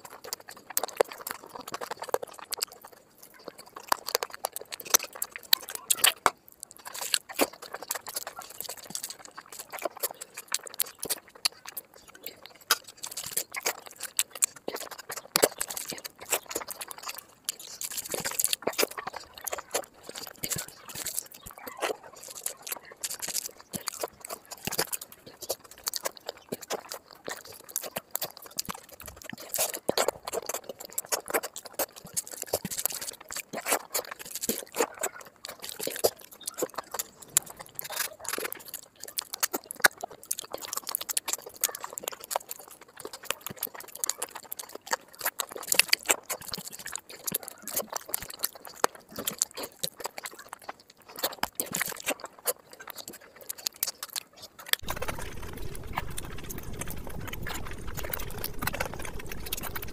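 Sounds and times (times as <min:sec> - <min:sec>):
wet chewing and lip-smacking: 0:00.0 - 0:59.9.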